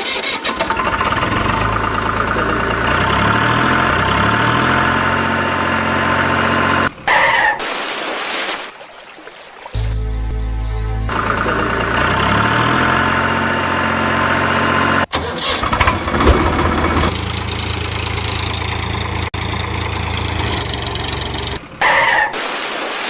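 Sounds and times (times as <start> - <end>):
tractor engine running: 0.0 - 7.1, 9.8 - 21.9.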